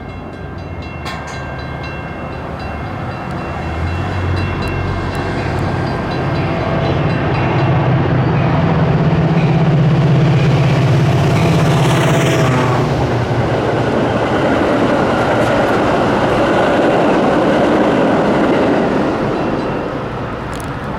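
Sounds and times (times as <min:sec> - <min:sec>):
diesel locomotive engine drone: 0:00.0 - 0:20.9
train coaches rolling over rails: 0:00.0 - 0:20.9.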